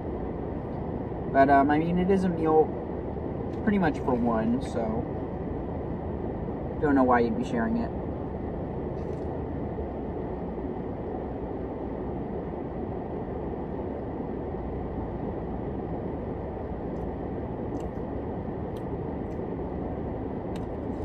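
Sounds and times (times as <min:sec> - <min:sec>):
car cabin rumble and hiss: 0:00.0 - 0:21.0.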